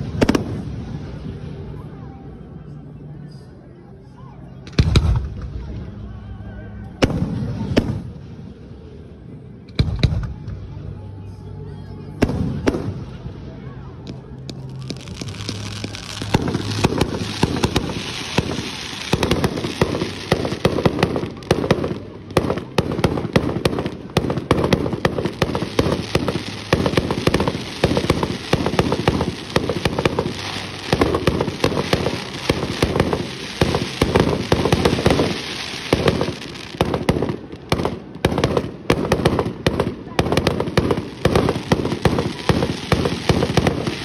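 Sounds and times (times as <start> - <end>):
fireworks bangs and crackles: 0.0 - 2.0, 4.6 - 6.1, 6.9 - 11.0, 12.2 - 44.0.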